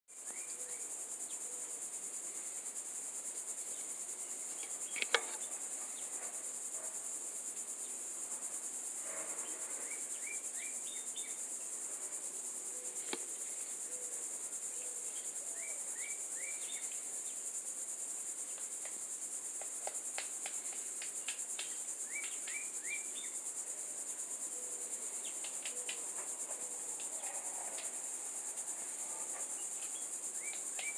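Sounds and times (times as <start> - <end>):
crickets chirping: 0.1 - 30.9.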